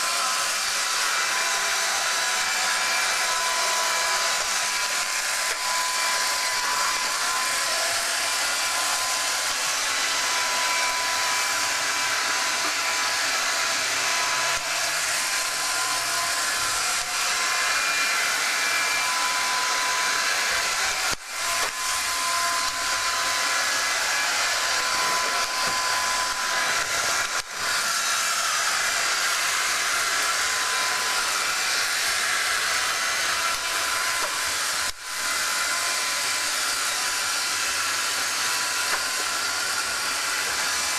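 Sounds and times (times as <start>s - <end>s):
robot vacuum running: 0.0s - 40.9s.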